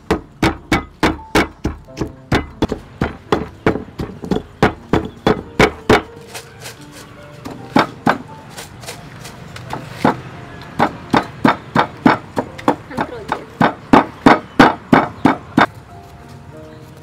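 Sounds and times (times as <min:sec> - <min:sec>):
pestle pounding in a mortar: 0:00.0 - 0:06.8, 0:07.4 - 0:15.7.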